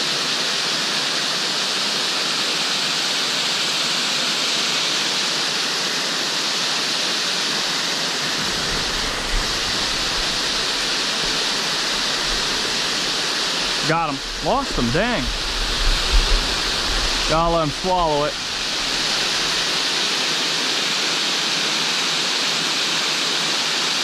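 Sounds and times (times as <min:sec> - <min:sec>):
small waterfall rushing: 0:00.0 - 0:24.0.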